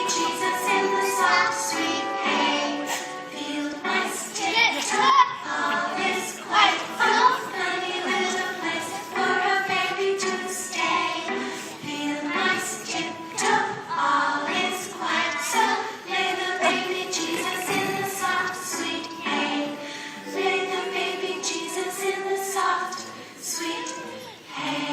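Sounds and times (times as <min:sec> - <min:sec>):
children's choir singing: 0:00.0 - 0:24.9.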